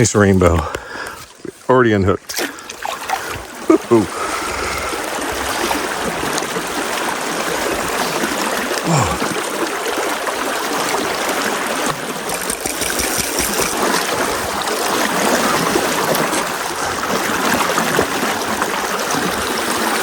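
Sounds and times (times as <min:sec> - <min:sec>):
river water flowing over rocks: 0:02.2 - 0:20.0.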